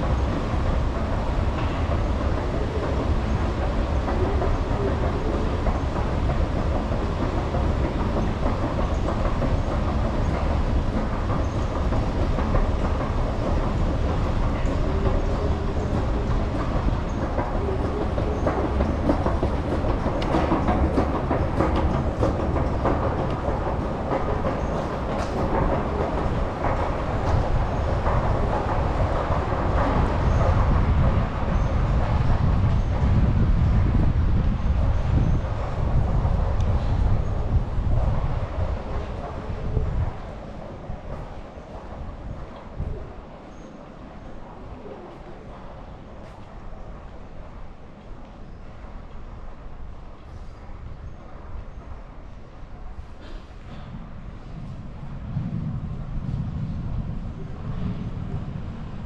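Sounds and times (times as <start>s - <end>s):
escalator rumble and rattle: 0.0s - 50.2s.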